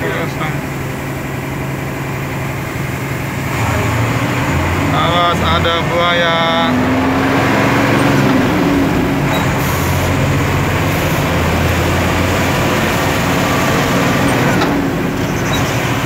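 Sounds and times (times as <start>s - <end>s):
road and wind noise: 0.0s - 16.0s
truck engine running: 0.0s - 16.0s.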